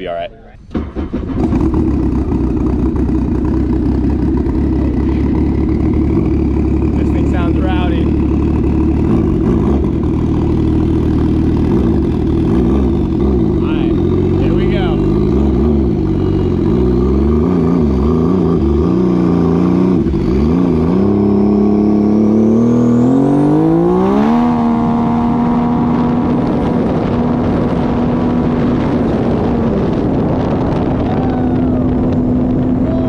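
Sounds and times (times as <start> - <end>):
jet ski engine revving: 0.6 - 33.0.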